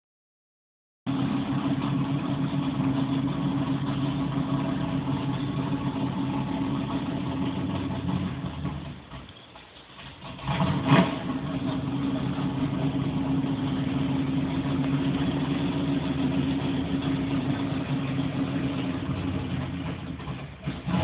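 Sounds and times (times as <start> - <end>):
race car engine: 1.1 - 21.0.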